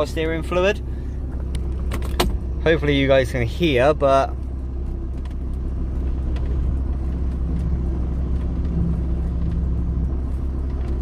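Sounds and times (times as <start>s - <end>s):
diesel engine rumbling: 0.0s - 11.0s
steady humming tone: 0.2s - 11.0s.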